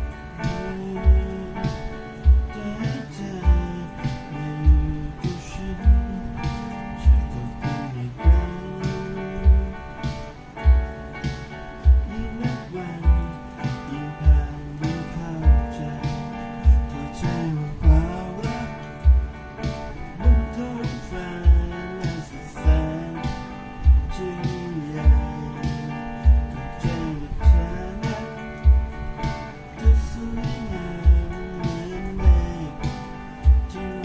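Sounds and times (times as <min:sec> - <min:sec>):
kick drum beating: 0:00.0 - 0:33.9
instrumental guitar and bass music: 0:00.0 - 0:34.0.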